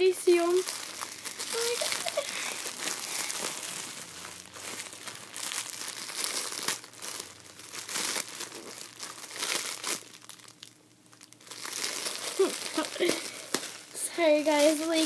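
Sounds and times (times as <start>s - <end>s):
plastic packaging crinkling: 0.2s - 15.0s.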